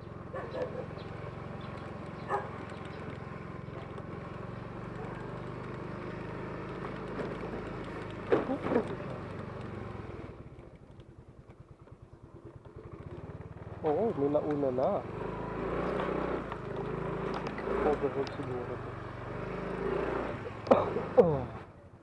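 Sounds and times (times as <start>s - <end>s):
motor scooter engine running: 0.0s - 22.0s.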